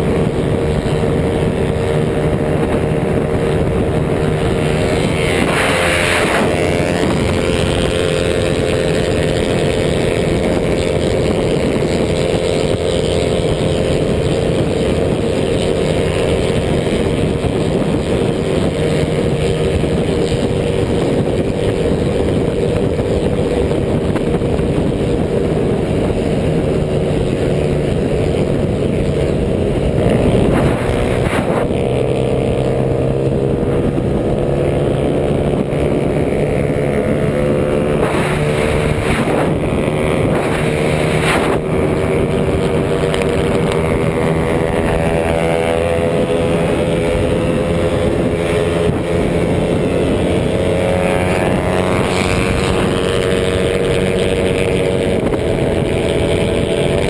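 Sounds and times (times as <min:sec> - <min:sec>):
motorcycle engine running hard: 0:00.0 - 0:57.0
wind rushing on microphone: 0:00.0 - 0:57.0.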